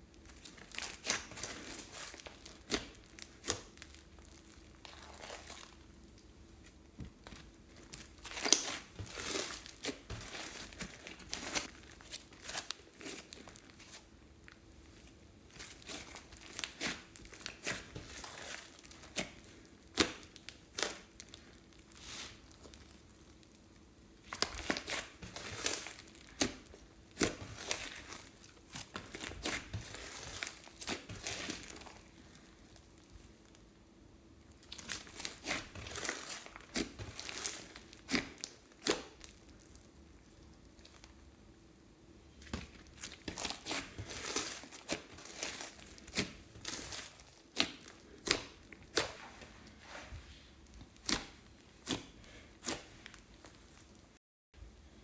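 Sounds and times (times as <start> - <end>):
hands squishing slime: 0.1 - 23.6, 24.2 - 33.5, 34.5 - 41.2, 42.4 - 54.1.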